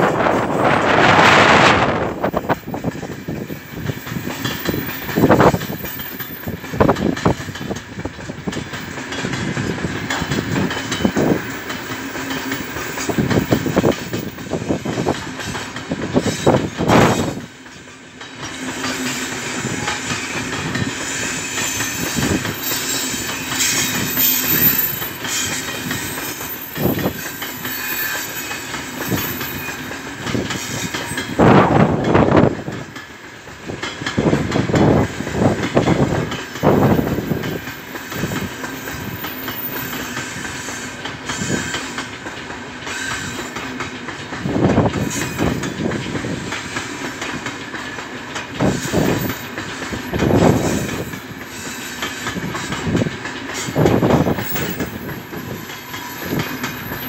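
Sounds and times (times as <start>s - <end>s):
wheels clacking over rail joints: 0.0s - 57.0s.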